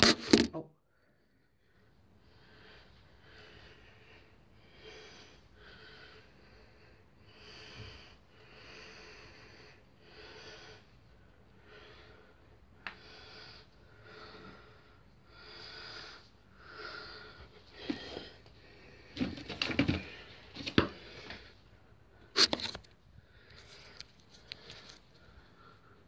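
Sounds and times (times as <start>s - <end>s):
faint rhythmic breathing: 0.8s - 26.0s.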